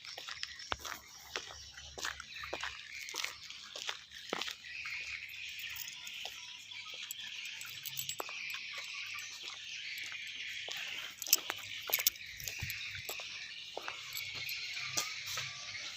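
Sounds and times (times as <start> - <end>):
birds twittering: 0.0 - 15.9.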